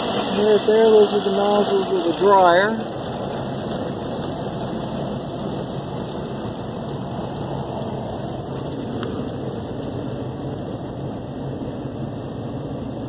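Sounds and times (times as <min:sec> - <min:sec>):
car wash water spraying on car: 0:00.0 - 0:13.0.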